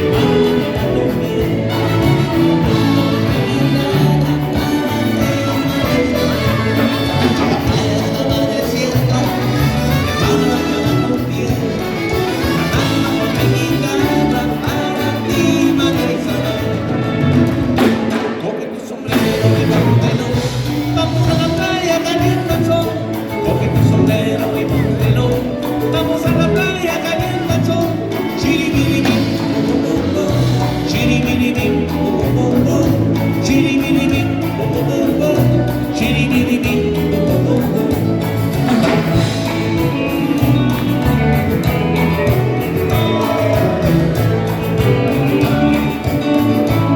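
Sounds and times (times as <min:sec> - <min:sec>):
live band playing dance music: 0:00.0 - 0:46.9
person singing: 0:00.0 - 0:46.9.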